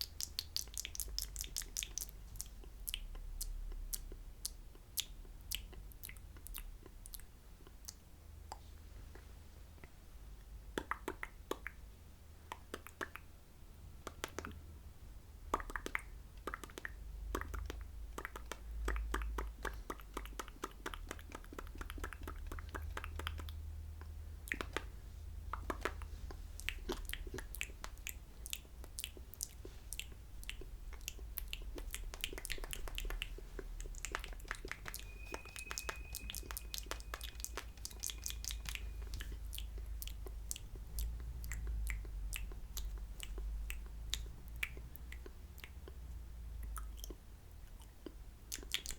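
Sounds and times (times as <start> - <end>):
wet mouth clicks and smacks: 0.0 - 11.8, 12.4 - 13.3, 14.0 - 14.6, 15.5 - 48.9.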